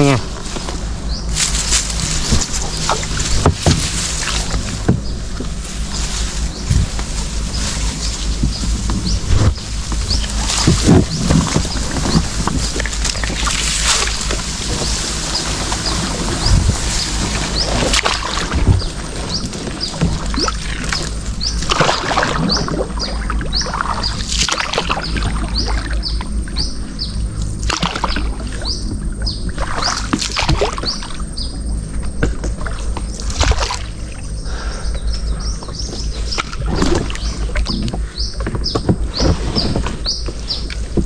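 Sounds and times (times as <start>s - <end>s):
rumble of moving water: 0.0s - 41.0s
bird chirping: 1.0s - 1.4s, 2.2s - 33.4s, 34.0s - 40.9s
rowing boat knocks and splashes: 1.4s - 34.4s, 35.6s - 41.0s.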